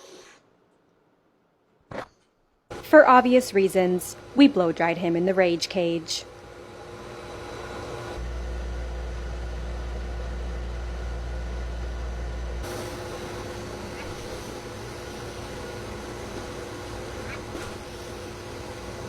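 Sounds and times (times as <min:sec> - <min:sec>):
dryer motor hum: 0:02.7 - 0:19.0.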